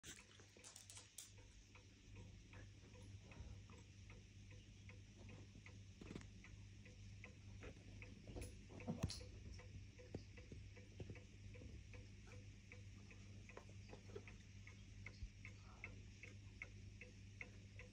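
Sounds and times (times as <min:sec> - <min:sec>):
mantel clock ticking: 0:00.6 - 0:17.9.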